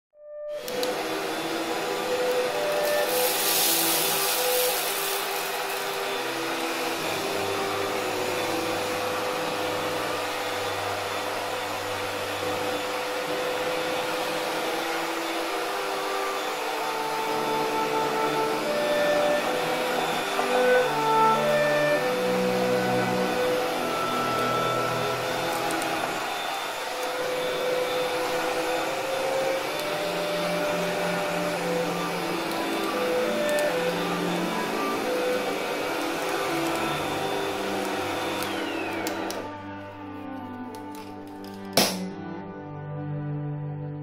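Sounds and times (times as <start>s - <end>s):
vacuum mop cleaner motor hum: 0.5s - 41.9s.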